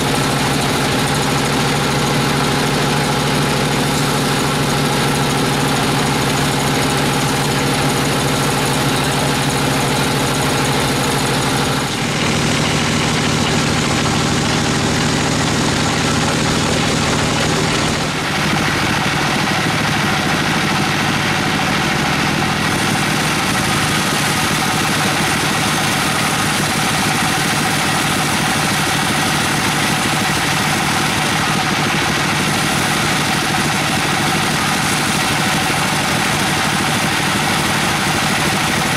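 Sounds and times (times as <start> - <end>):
bandsaw mill sawing log: 0.0 - 38.9.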